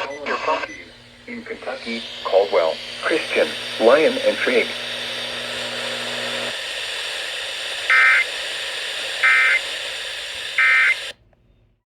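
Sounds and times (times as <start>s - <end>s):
steady hiss: 0.0s - 11.2s.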